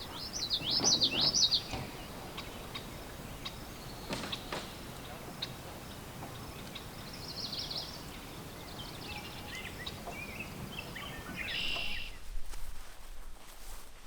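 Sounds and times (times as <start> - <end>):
songbirds singing: 0.0 - 12.2
background hiss: 0.0 - 14.0.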